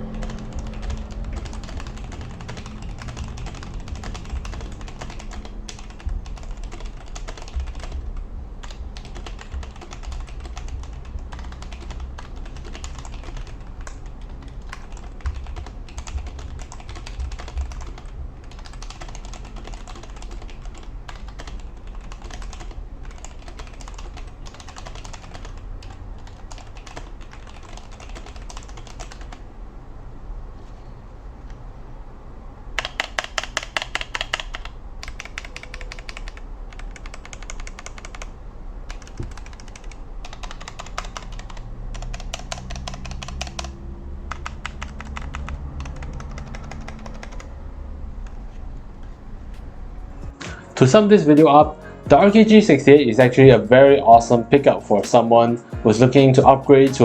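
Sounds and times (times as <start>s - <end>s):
mechanical keyboard typing: 0.0s - 29.4s, 32.8s - 49.6s.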